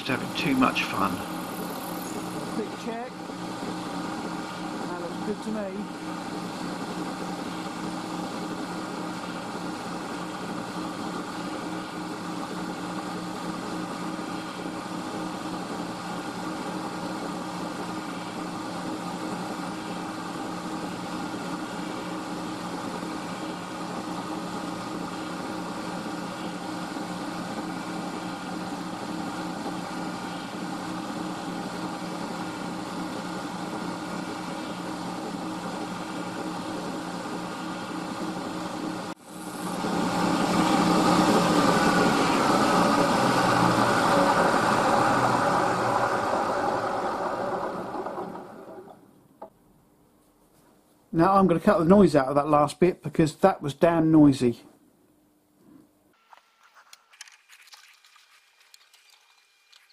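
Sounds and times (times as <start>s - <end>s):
milling machine hum: 0.0s - 49.6s.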